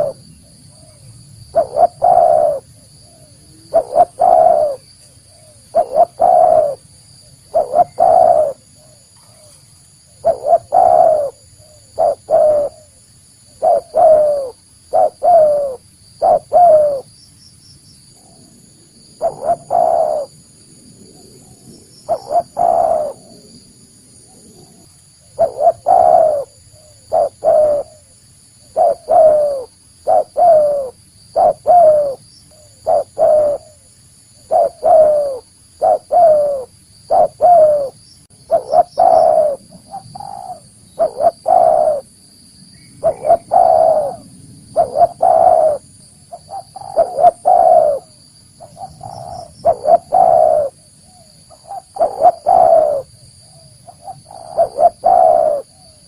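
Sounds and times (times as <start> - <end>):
dove cooing: 0.0 - 17.1, 18.2 - 20.4, 21.0 - 42.1, 43.0 - 56.0.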